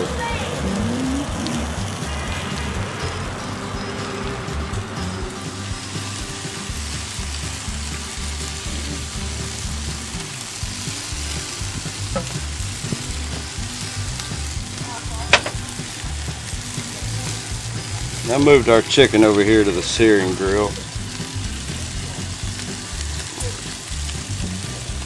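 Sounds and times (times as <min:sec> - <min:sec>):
chicken sizzling on a grill: 0:00.0 - 0:25.0.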